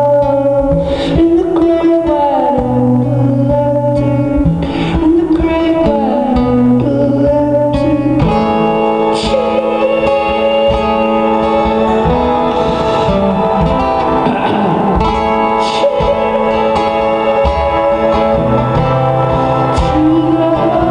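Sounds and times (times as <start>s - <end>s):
guitar playing: 0.0s - 20.9s
person singing: 0.0s - 20.9s.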